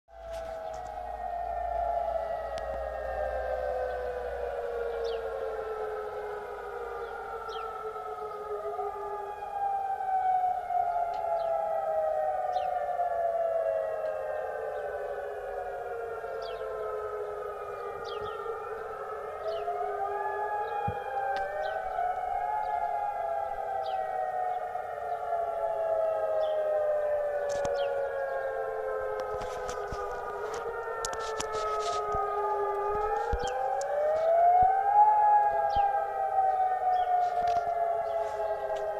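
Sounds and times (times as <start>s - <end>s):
warning sirens wailing: 0.1s - 38.9s.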